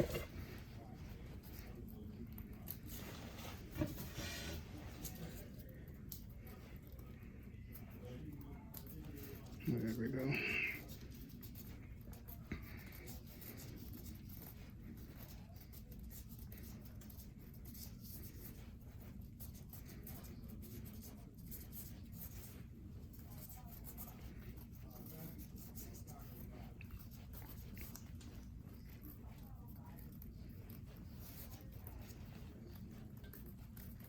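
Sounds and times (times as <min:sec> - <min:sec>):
scratchy rasping of skin: 0:00.0 - 0:01.8, 0:07.5 - 0:34.0.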